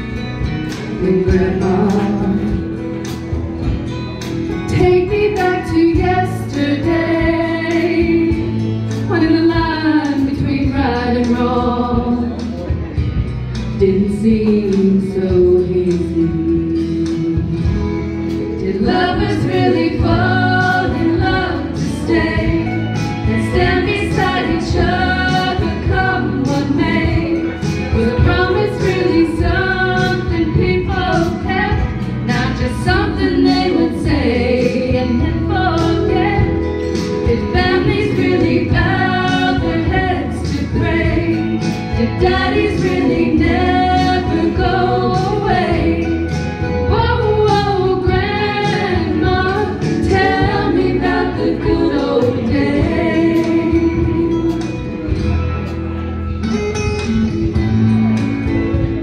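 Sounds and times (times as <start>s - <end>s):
two women singing: 0.0s - 3.2s, 4.7s - 12.8s, 13.7s - 55.2s
live backing band: 0.0s - 59.0s.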